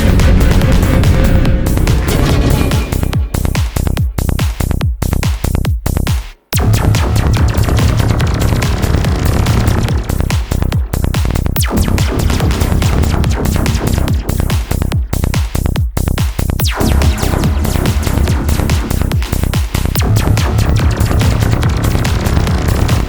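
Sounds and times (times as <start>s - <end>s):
psytrance music: 0.0s - 23.0s
steady bass: 0.0s - 23.0s.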